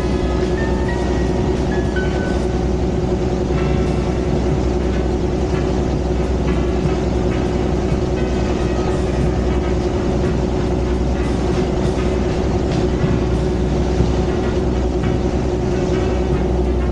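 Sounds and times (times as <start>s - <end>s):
boat engine droning: 0.0s - 16.9s.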